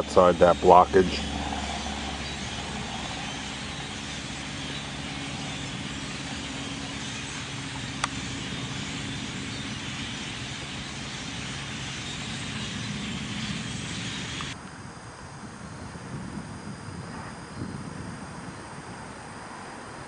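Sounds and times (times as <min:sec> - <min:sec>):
distant road traffic hum: 0:00.0 - 0:20.0.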